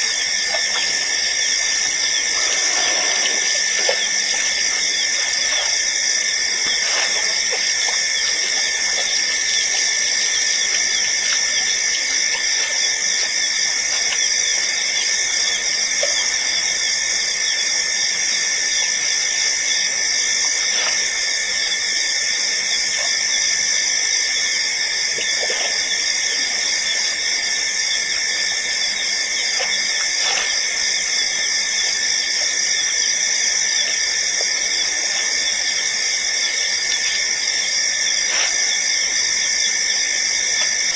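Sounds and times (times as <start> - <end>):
high-pitched hissing whine: 0.0 - 40.9.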